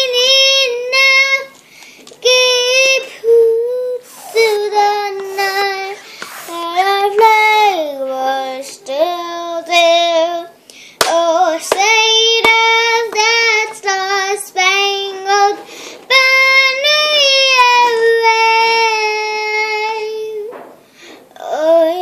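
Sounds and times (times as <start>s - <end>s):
girl singing: 0.0s - 20.6s, 21.3s - 22.0s.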